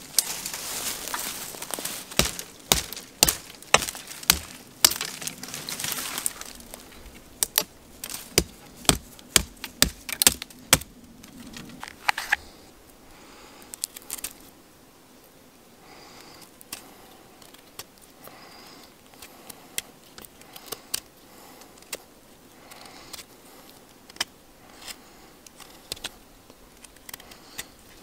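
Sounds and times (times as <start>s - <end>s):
dry wood cracking: 0.0s - 12.6s, 13.6s - 14.6s, 16.0s - 28.0s.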